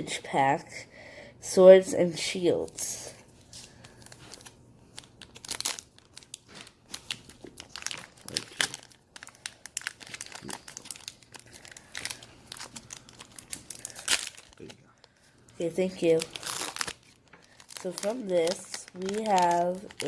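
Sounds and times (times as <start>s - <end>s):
foil wrapper tearing and crinkling: 3.7s - 20.0s.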